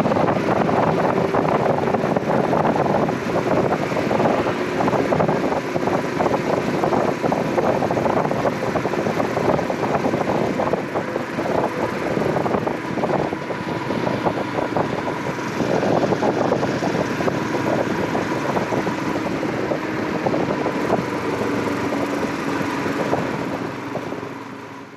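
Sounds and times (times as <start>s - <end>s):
wind on microphone: 0.0s - 24.6s
motorcycle engine running: 0.0s - 24.9s.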